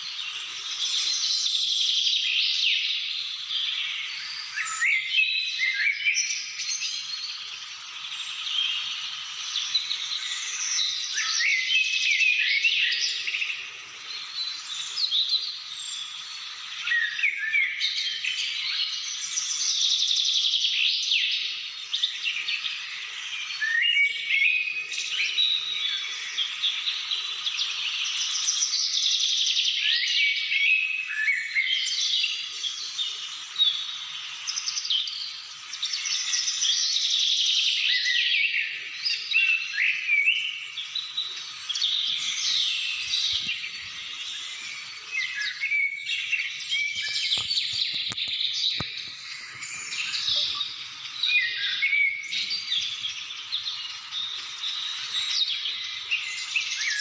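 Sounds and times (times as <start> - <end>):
wild birds chirping and trilling: 0.0 - 57.0.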